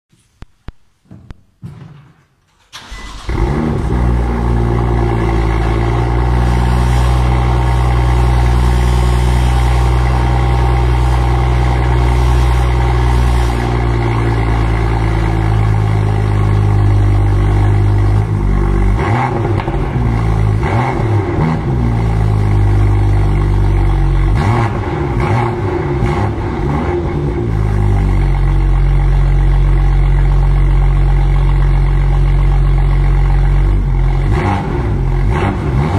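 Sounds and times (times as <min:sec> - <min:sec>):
engine running and revving: 0:03.1 - 0:35.9.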